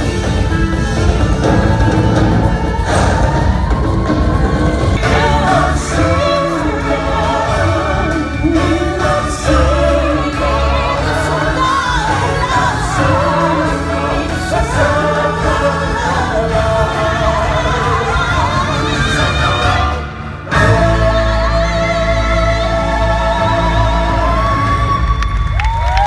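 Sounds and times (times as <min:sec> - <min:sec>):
backing track over sound system: 0:00.0 - 0:25.6
group of singers with vibrato: 0:01.2 - 0:25.6.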